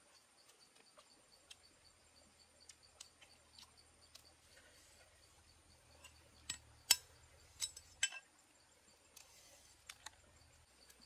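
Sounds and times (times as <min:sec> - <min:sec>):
faint insect chirping: 0:00.0 - 0:11.0.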